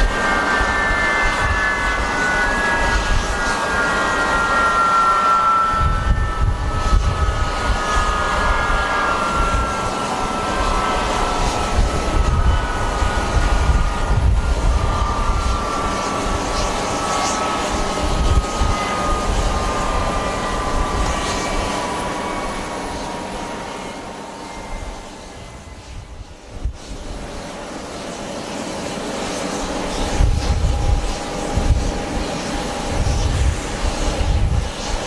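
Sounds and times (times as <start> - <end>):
wind buffeting microphone: 0.0 - 27.4, 29.9 - 35.0
airliner engines whining: 0.0 - 35.0.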